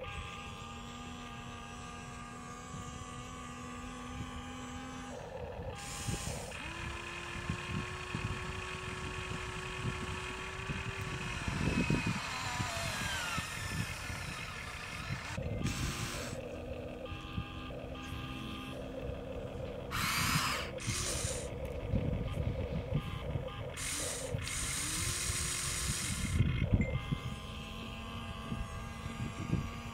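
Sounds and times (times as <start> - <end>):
electric gear motors whining: 0.0 - 29.9.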